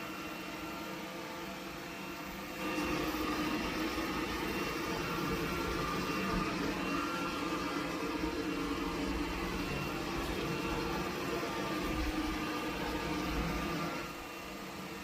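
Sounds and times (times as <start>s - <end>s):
robot vacuum motor humming: 0.0s - 15.0s.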